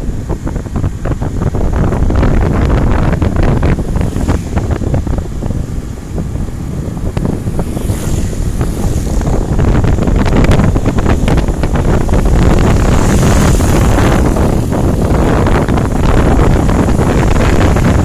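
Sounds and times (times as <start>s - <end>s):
road and vehicle noise: 0.0s - 18.0s
wind buffeting microphone: 0.0s - 18.0s.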